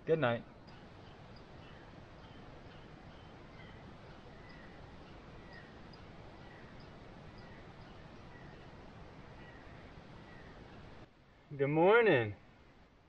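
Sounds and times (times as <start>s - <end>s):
bird chirping: 0.0s - 11.7s
background hiss: 0.0s - 13.0s.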